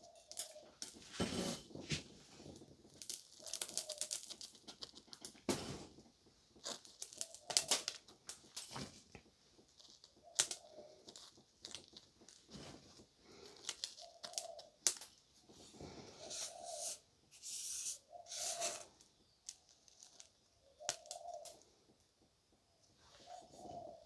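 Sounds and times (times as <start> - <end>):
crinkling and rustling materials: 0.0 - 24.0.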